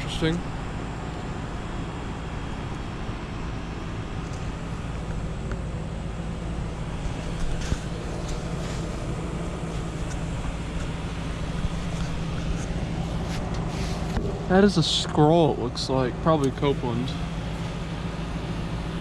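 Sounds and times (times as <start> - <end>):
heat pump compressor hum: 0.0 - 19.0
outdoor fan noise: 0.0 - 19.0.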